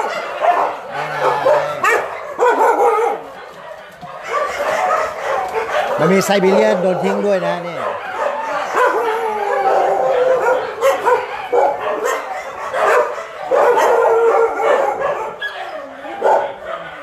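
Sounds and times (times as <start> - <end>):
dogs howling and yelping: 0.0 - 17.0.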